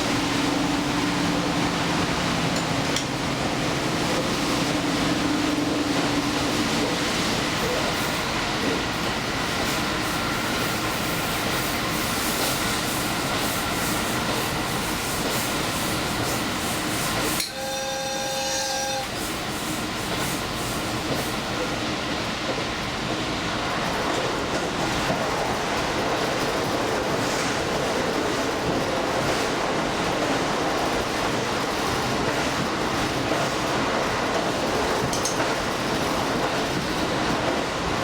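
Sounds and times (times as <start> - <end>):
train wheels and rails rumble: 0.0 - 38.0.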